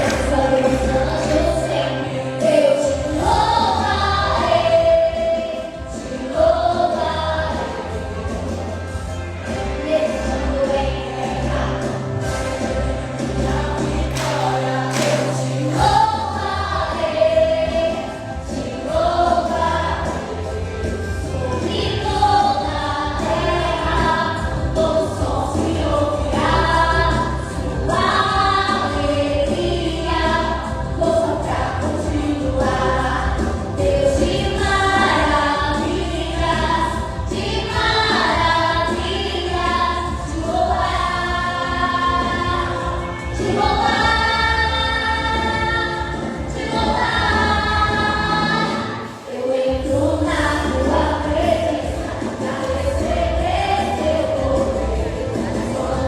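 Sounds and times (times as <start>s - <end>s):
gospel group singing in harmony: 0.0s - 56.0s.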